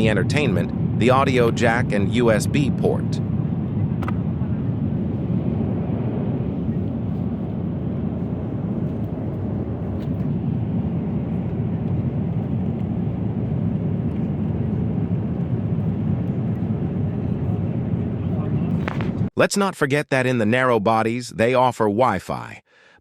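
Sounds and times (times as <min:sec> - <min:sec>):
airplane cabin engine drone: 0:00.0 - 0:19.3.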